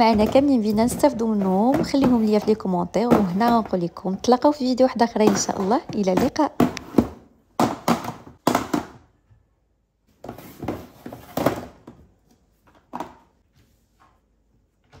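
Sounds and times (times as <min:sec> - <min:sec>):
plastic containers knocking and scraping: 0:00.0 - 0:09.3, 0:10.1 - 0:13.4.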